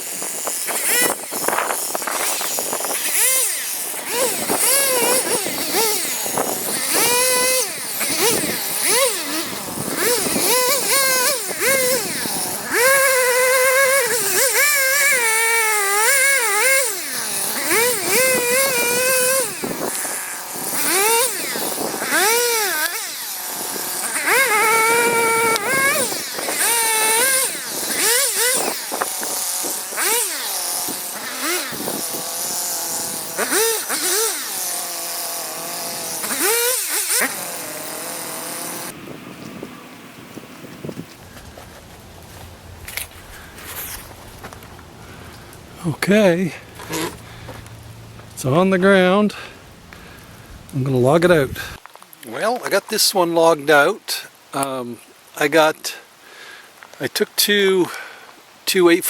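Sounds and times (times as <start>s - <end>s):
chainsaw cutting wood: 0.0s - 52.7s.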